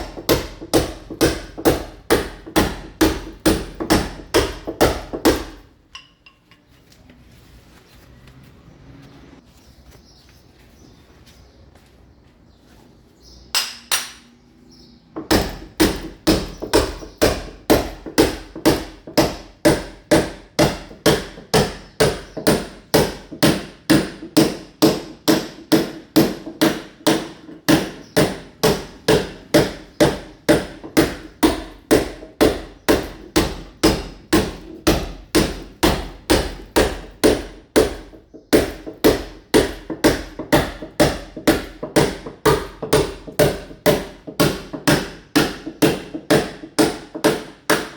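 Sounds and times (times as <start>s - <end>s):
hammer chipping masonry wall: 0.0s - 5.8s, 15.1s - 47.9s.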